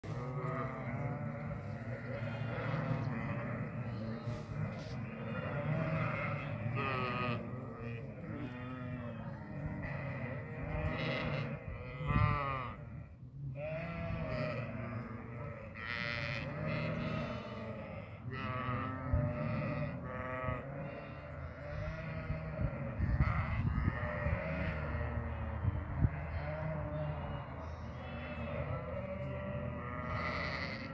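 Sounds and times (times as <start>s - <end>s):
sheep and lambs bleating: 0.0s - 30.9s.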